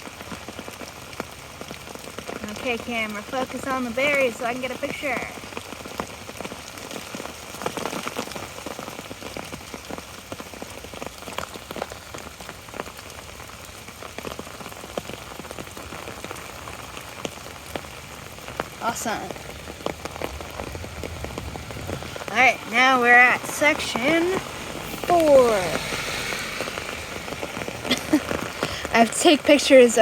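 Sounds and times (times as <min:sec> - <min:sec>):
rain on an umbrella: 0:00.0 - 0:30.0.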